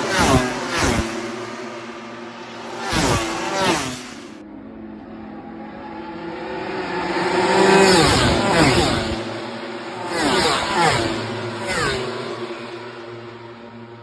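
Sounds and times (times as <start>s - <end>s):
race engines passing: 0.0s - 14.0s.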